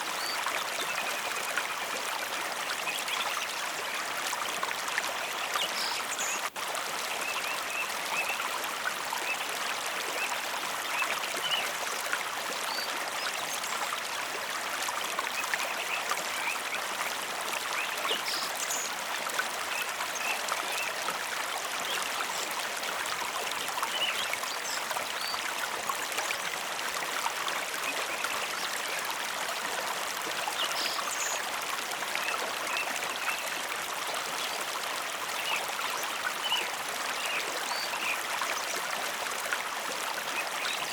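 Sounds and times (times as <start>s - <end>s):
river flowing and babbling: 0.0s - 40.9s.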